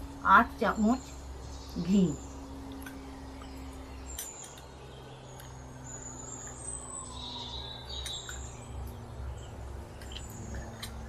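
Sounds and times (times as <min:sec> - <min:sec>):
low steady hum: 0:00.0 - 0:11.0
small birds chirping: 0:00.1 - 0:11.0.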